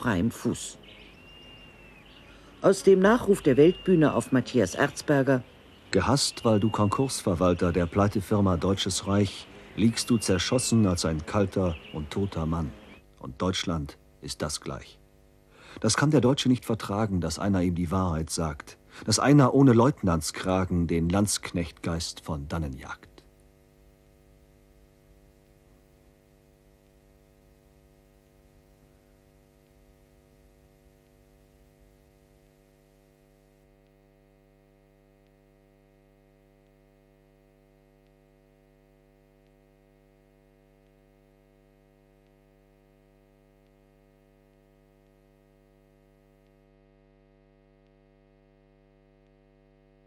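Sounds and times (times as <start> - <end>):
faint electrical hum: 0.0 - 50.0.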